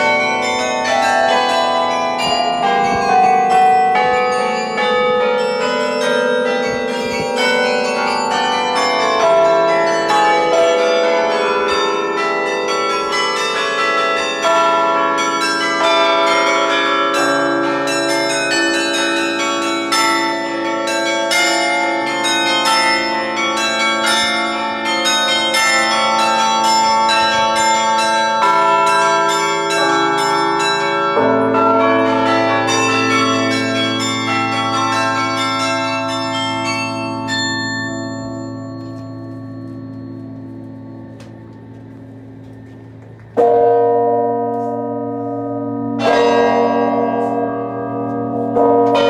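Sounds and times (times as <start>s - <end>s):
carillon bells melody: 0.0s - 49.0s
low held bell notes: 0.0s - 49.0s.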